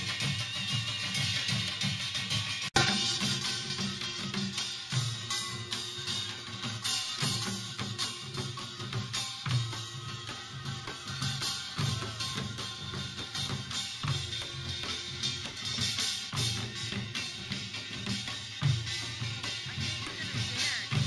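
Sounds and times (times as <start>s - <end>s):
drums in a driving beat: 0.0s - 21.0s.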